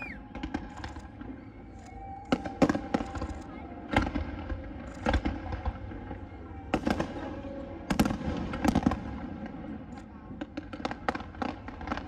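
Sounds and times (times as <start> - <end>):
continuous low rumble: 0.0 - 12.0
fireworks bursting with sharp bangs: 2.2 - 12.0.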